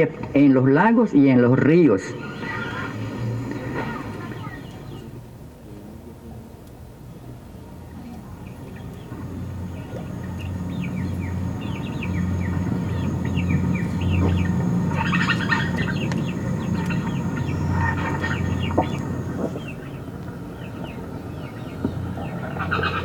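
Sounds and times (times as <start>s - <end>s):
birds chirping: 0.0s - 5.2s, 7.5s - 23.0s
steady low hum: 0.0s - 23.0s.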